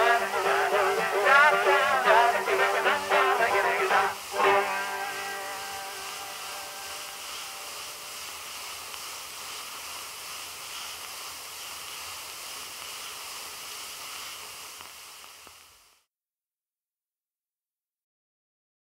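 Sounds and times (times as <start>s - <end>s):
phonograph surface hiss and crackle: 0.0s - 16.1s.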